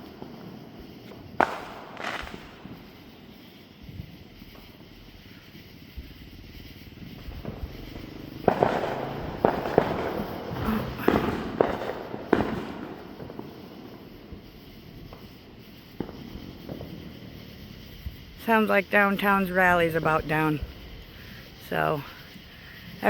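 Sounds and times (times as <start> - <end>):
fireworks bangs: 0.0 - 23.0
fireworks crackling: 0.0 - 23.0.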